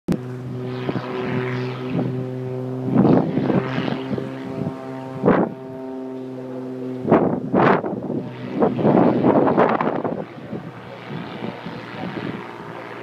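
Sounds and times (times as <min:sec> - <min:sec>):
wind noise on microphone: 0:00.1 - 0:12.7
propeller aircraft engine droning: 0:00.1 - 0:13.0.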